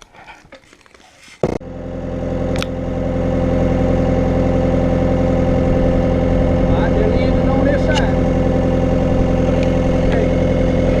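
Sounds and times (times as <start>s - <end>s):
engine running steadily: 1.4s - 11.0s.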